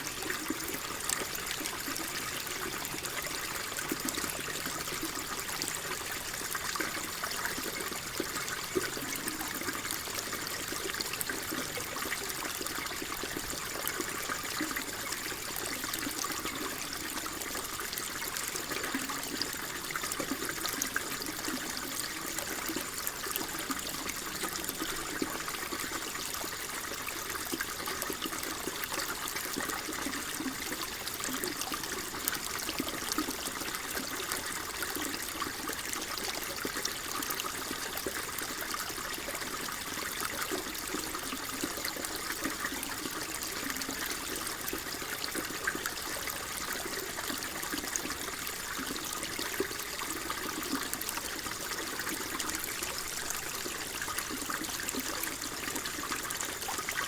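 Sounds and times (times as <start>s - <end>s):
water flowing and trickling: 0.0s - 57.0s.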